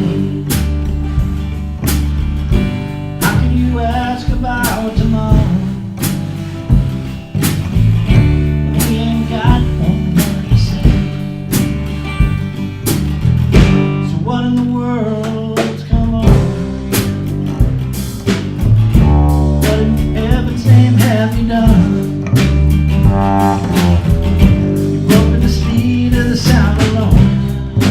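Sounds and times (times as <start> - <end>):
country blues band playing: 0.0 - 27.9.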